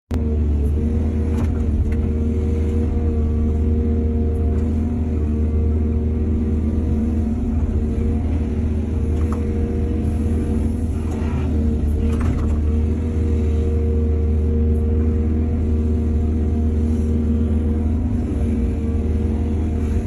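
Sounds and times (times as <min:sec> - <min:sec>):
excavator diesel engine droning: 0:00.1 - 0:20.0.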